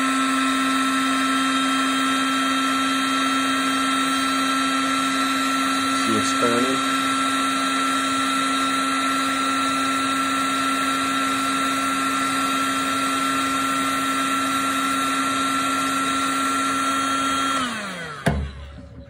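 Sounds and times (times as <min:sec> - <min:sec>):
heat gun motor whine: 0:00.0 - 0:19.0.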